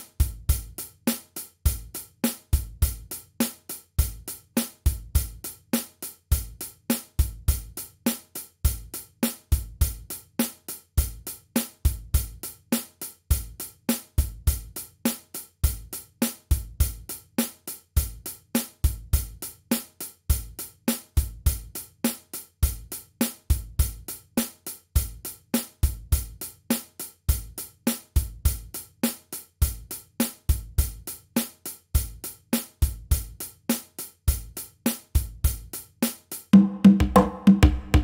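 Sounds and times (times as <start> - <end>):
drum beat with hi-hat and kick: 0.0 - 38.0.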